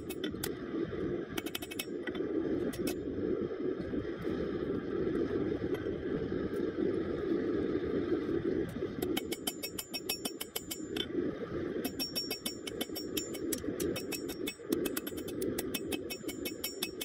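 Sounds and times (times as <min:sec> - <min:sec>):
forge burner roaring: 0:00.0 - 0:17.0.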